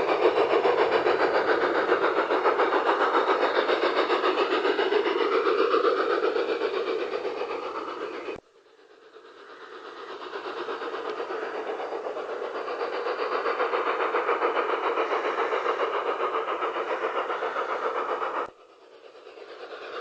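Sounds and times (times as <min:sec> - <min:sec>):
model locomotive steam chuff: 0:00.0 - 0:20.0.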